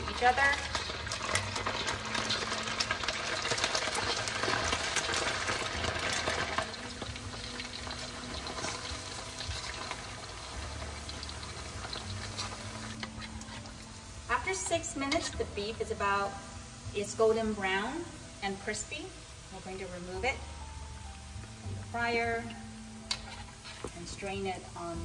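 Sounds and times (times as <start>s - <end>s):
meat deep-frying in oil: 0.0s - 25.0s.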